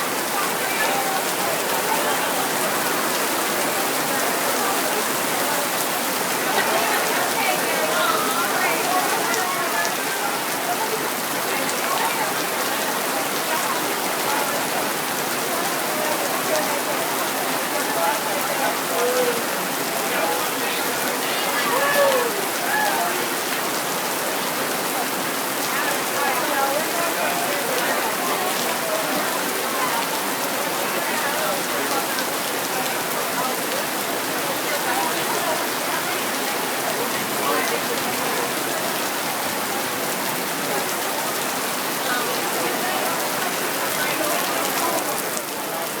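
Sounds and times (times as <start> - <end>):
heavy rain pattering: 0.0 - 46.0.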